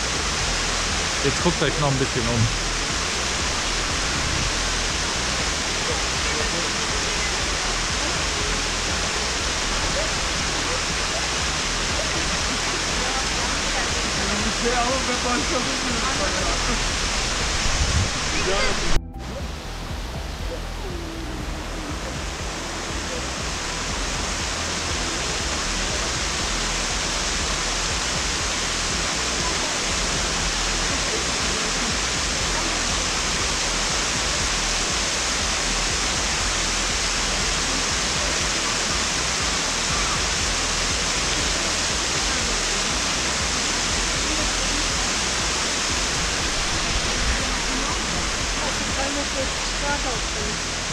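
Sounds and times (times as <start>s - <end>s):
waterfall roaring: 0.0s - 50.9s.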